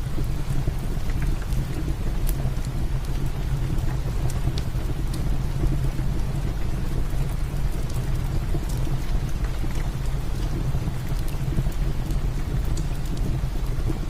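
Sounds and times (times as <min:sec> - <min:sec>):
heavy rain: 0:00.0 - 0:14.0
wood fire crackling: 0:00.0 - 0:14.0.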